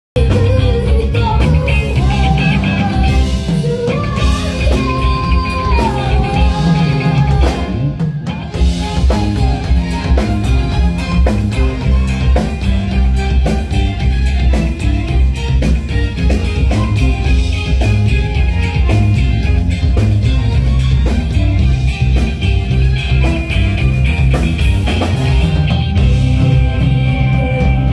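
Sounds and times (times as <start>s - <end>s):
drum kit and bass pounding: 0.2s - 27.9s
rock band playing loud: 0.2s - 27.9s
wavering held lead notes: 0.2s - 27.9s.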